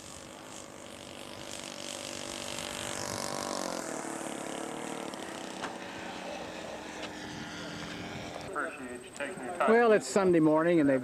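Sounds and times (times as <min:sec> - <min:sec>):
model airplane engine running: 0:00.0 - 0:09.5.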